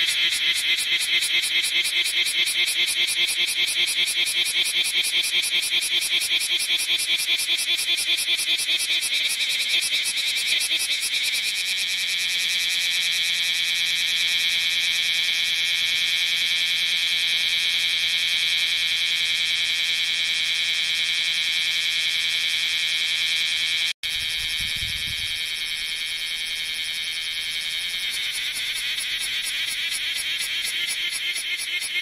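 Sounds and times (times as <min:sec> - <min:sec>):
cicada buzzing: 0:00.0 - 0:32.0.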